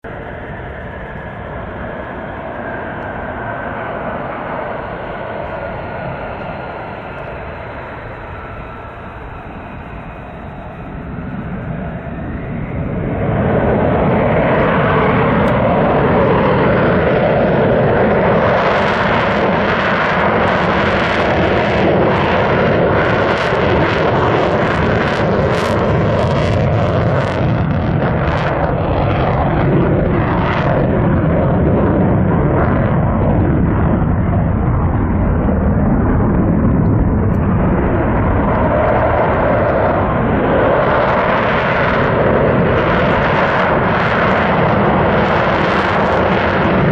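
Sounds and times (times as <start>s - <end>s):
loud fighter jet engine crackling: 0.0s - 46.9s.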